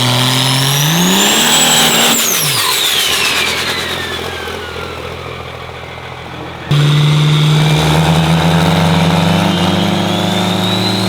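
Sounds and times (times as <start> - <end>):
turbo whistle: 0.0 - 5.1, 6.6 - 11.0
diesel truck engine revving: 0.0 - 11.0.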